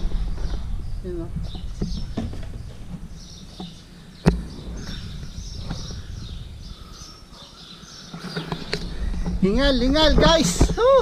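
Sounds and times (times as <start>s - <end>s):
wind rumble: 0.0s - 11.0s
faint bird chirps: 0.1s - 9.4s.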